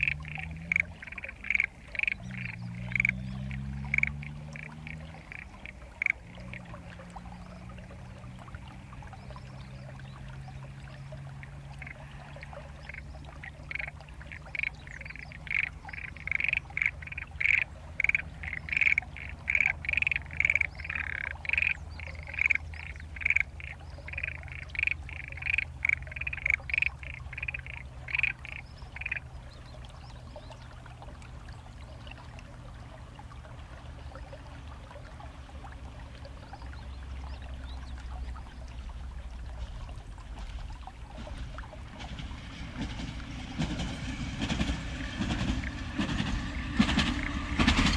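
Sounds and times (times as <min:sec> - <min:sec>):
frogs croaking: 0:00.0 - 0:47.9.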